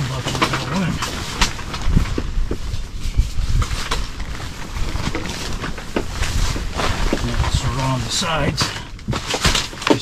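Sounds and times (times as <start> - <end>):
wind rumbling on microphone: 0.0 - 9.9
nylon tent fabric rustling: 0.0 - 10.0.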